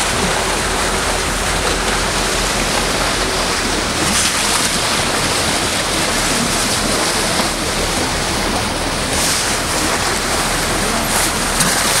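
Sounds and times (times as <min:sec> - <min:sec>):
seawater rushing along boat bow: 0:00.0 - 0:12.0.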